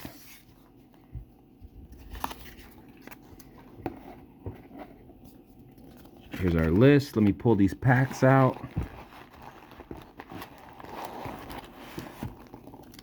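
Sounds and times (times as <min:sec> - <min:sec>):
paper and packaging rustling: 0:01.7 - 0:13.0.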